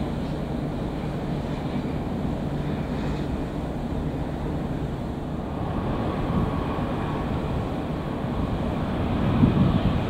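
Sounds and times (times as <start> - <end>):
jet engines rumbling: 0.0 - 10.0
wind buffeting microphone: 0.0 - 10.0.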